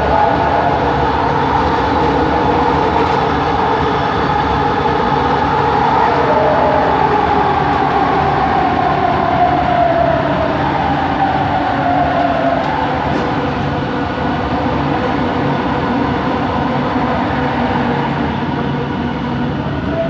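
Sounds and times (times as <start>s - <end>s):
train rumble and rail noise: 0.0s - 20.0s.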